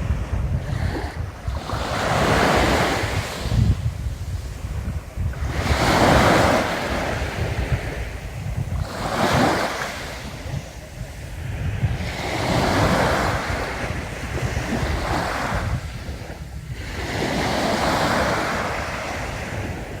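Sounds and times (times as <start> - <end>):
sea waves breaking on beach: 0.0 - 20.0
wind rumbling on microphone: 0.0 - 20.0.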